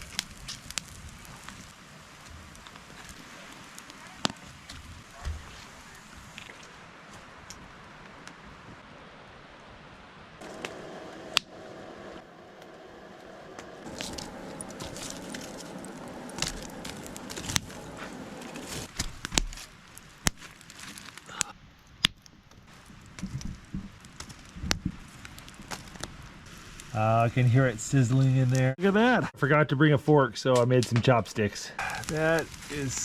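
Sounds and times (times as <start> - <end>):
campfire crackling: 0.0 - 30.0, 30.6 - 33.0.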